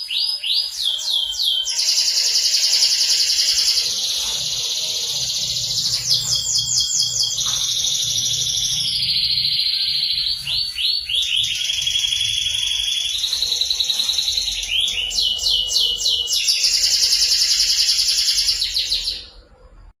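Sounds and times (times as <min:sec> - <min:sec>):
canary singing: 0:00.0 - 0:19.6.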